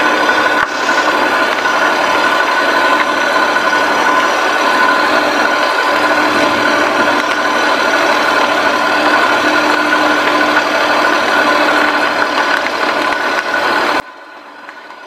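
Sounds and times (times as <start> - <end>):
truck engine and tyres rushing: 0.0 - 14.1.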